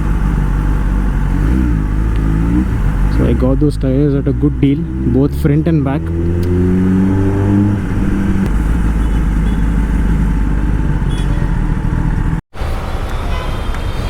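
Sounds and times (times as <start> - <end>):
motorcycle engine rumble: 0.0 - 12.4.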